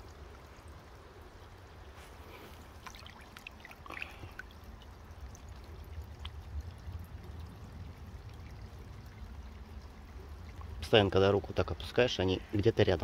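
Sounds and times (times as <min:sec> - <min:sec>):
pond water trickling: 0:00.0 - 0:13.0.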